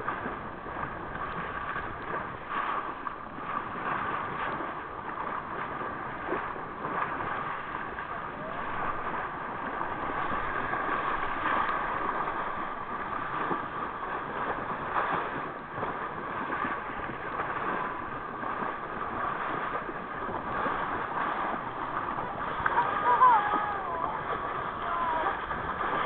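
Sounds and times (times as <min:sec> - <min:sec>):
water rushing along boat bow: 0:00.0 - 0:26.0
wind buffeting microphone: 0:00.0 - 0:26.0.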